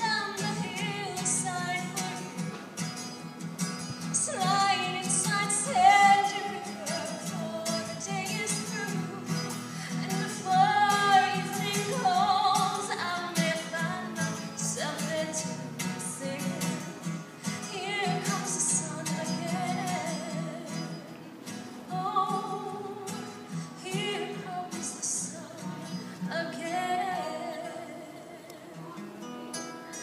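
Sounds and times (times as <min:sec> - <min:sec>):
woman singing with vibrato: 0:00.0 - 0:02.5, 0:04.0 - 0:21.1, 0:21.8 - 0:30.0
guitar accompaniment: 0:00.0 - 0:30.0.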